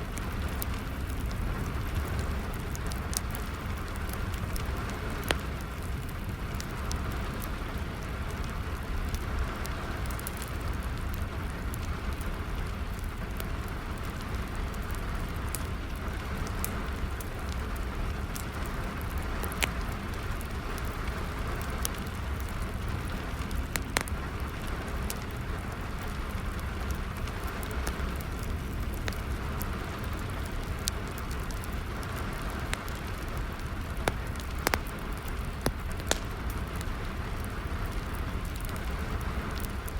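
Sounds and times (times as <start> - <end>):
sharp pops of fire: 0.0 - 39.9
steady rain: 0.0 - 39.9
wood fire crackling: 0.0 - 39.9.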